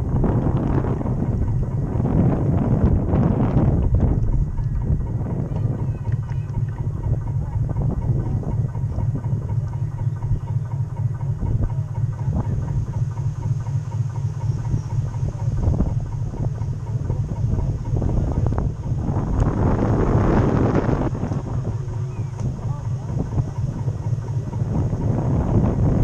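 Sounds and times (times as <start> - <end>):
model boat rumbling on water: 0.0 - 26.0.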